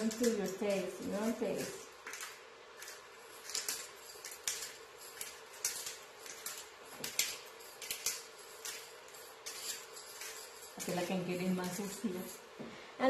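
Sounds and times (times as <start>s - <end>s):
pepper grinder crunching: 0.0s - 12.6s.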